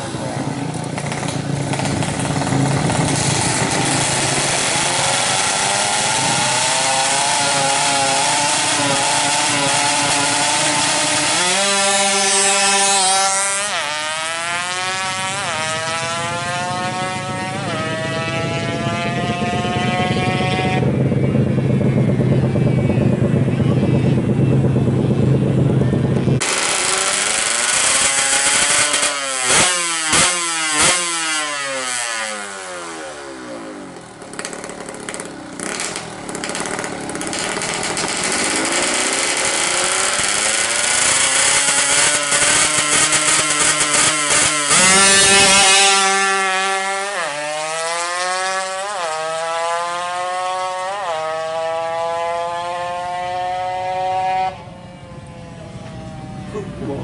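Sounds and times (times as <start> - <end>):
sharp loud exhaust cracks: 0.0 - 52.1
two-stroke engine revving: 0.0 - 54.8.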